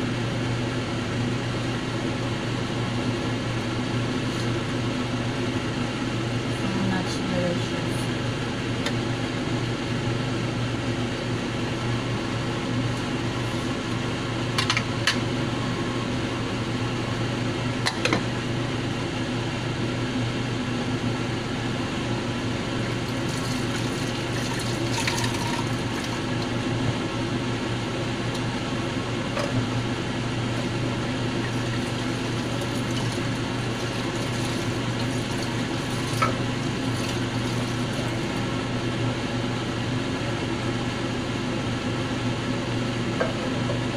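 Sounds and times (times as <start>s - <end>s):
low appliance hum: 0.0s - 43.9s.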